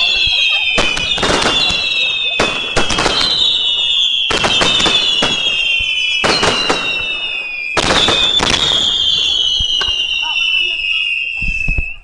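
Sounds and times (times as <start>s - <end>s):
fireworks cracking and banging: 0.0s - 12.0s
fireworks whistling: 0.0s - 12.0s.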